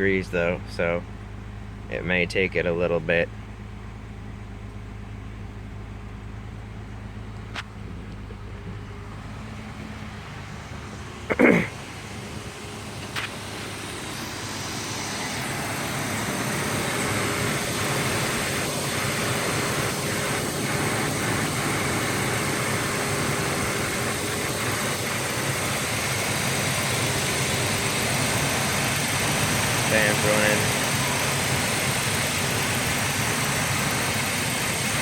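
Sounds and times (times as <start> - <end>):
truck engine idling: 0.0 - 35.0
radiator fan whirring: 3.0 - 35.0.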